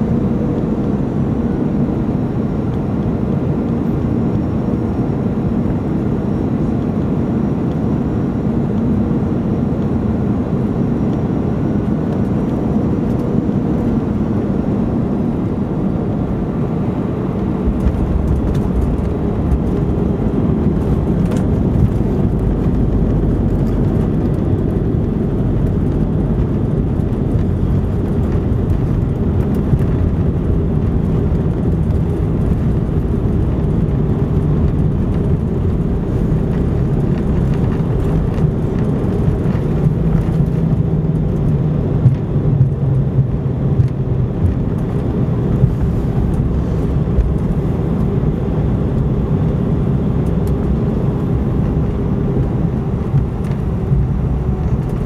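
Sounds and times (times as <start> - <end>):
aircraft engines rumbling: 0.0 - 55.0
wheels rumbling on runway: 0.0 - 55.0.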